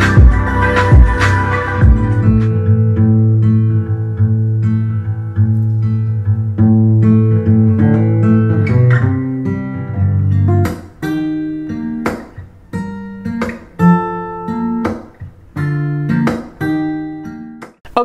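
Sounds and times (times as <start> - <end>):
acoustic guitar chords through speakers: 0.0 - 18.0.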